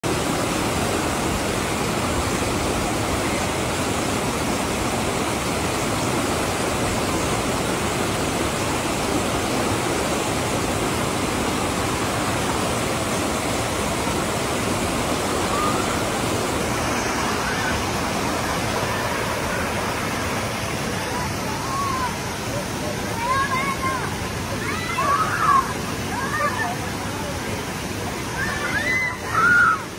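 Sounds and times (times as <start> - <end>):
water rushing over rocks: 0.0 - 29.9.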